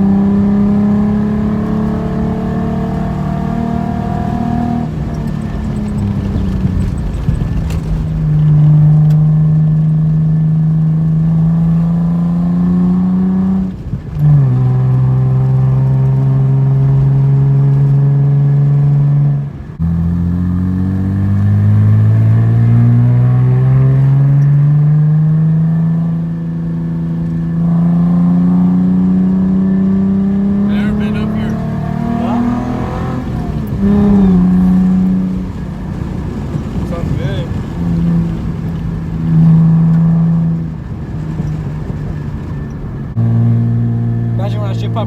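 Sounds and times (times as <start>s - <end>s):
car exhaust accelerating: 0.0s - 45.0s.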